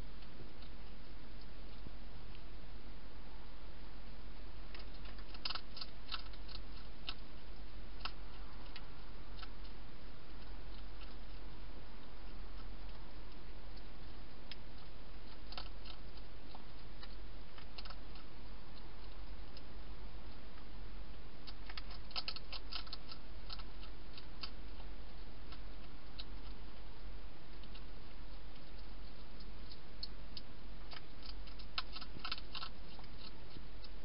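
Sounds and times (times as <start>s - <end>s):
faint clicks and ticks: 0.0s - 2.6s, 4.6s - 34.0s
low electrical hum and hiss: 0.0s - 34.0s.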